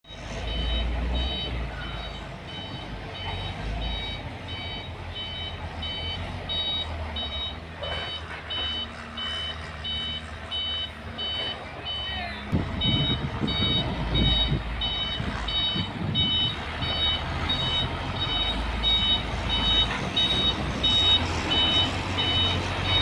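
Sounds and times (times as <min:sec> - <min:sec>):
low engine rumble: 0:00.1 - 0:23.0
truck reversing alarm beeping: 0:00.1 - 0:23.0.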